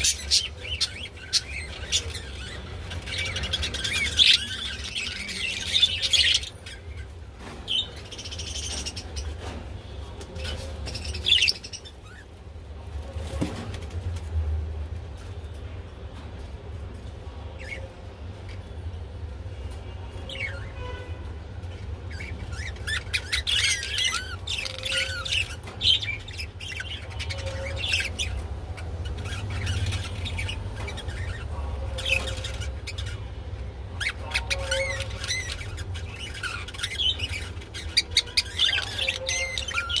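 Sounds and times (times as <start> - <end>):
budgerigars chirping and warbling: 0.0 - 12.5, 17.5 - 18.7, 20.1 - 20.9, 21.6 - 40.0.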